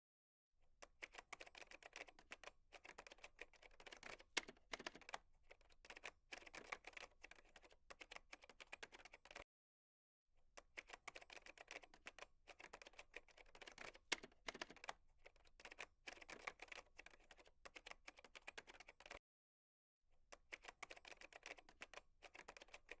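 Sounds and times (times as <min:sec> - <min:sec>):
fast keyboard typing: 0:00.8 - 0:09.4, 0:10.6 - 0:19.2, 0:20.4 - 0:23.0.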